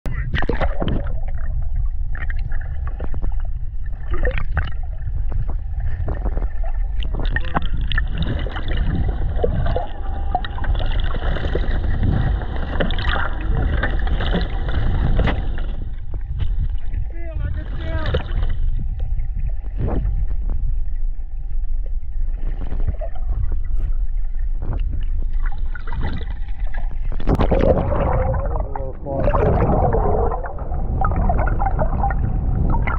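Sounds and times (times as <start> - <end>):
underwater rumble with crackles: 0.0 - 32.9.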